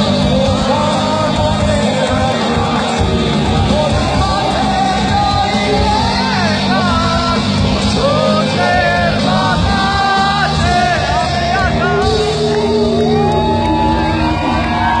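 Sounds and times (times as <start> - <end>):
crowd shouting along: 0.0 - 15.0
person singing: 0.0 - 15.0
rock band playing live: 0.0 - 15.0.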